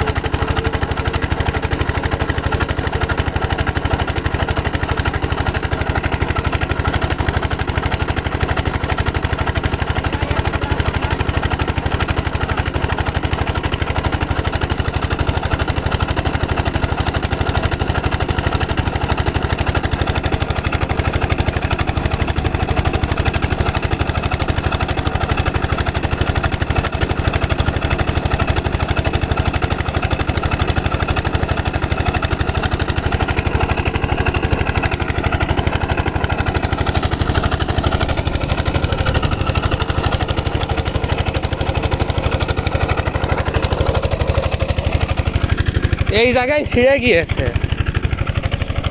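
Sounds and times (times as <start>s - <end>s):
diesel water pump running: 0.0s - 48.9s.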